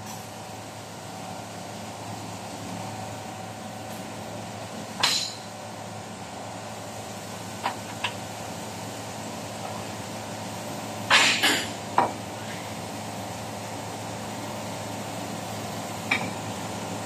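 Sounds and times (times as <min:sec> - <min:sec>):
shop hum: 0:00.0 - 0:17.0.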